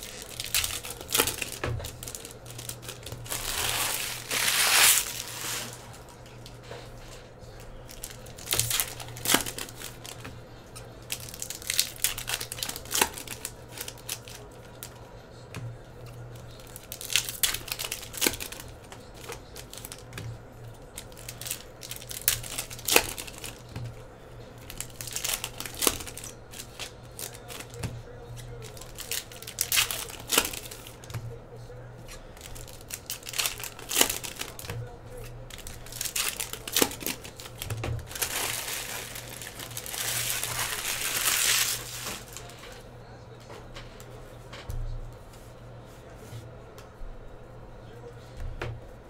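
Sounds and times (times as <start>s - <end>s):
trading cards rustling: 0.0s - 15.1s, 16.0s - 31.2s, 32.1s - 42.8s
low steady hum: 0.0s - 49.0s.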